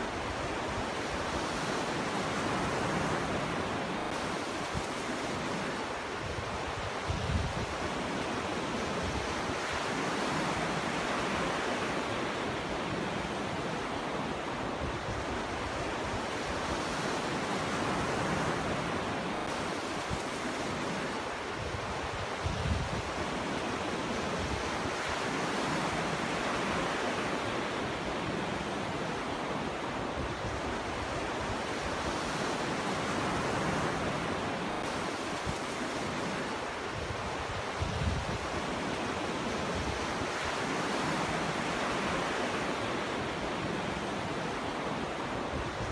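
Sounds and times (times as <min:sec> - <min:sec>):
surf breaking on a beach: 0:00.0 - 0:45.9.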